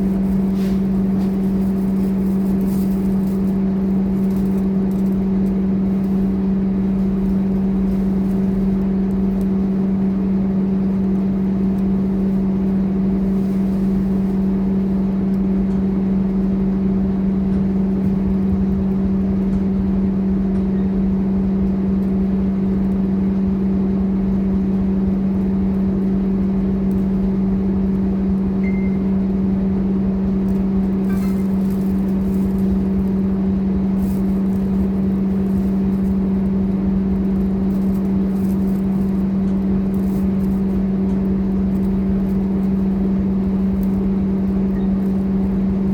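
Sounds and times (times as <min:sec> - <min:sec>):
bus engine drone and rumble: 0:00.0 - 0:45.9.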